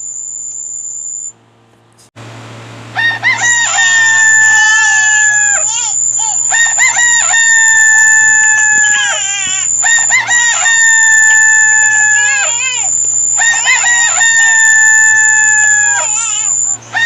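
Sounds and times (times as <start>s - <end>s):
high-pitched electronic tone: 0.0s - 1.4s, 3.4s - 17.0s
rooster crowing: 3.0s - 17.0s.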